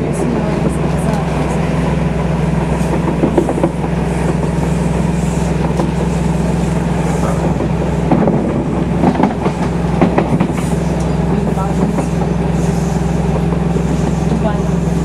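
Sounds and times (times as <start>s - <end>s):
train running hum: 0.0s - 15.0s.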